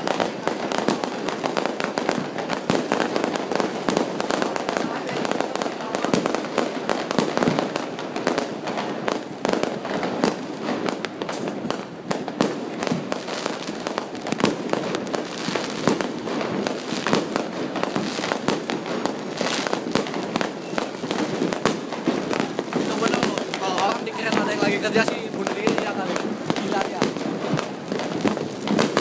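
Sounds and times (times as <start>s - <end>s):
fireworks cracking and banging: 0.0s - 29.0s.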